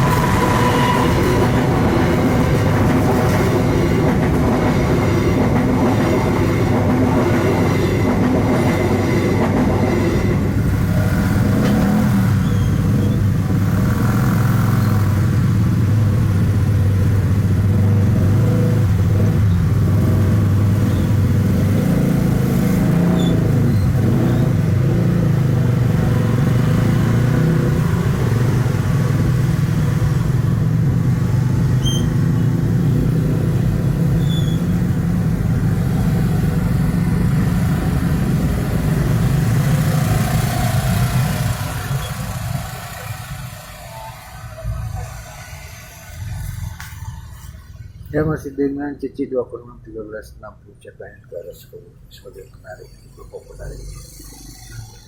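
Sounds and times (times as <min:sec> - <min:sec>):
engines droning: 0:00.0 - 0:50.0, 0:50.8 - 0:55.0.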